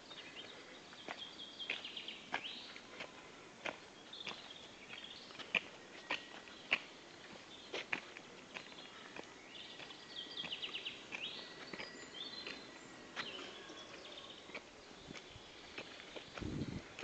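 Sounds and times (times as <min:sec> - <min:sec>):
footsteps on dirt path: 0:00.0 - 0:17.0
songbirds singing: 0:00.0 - 0:17.0.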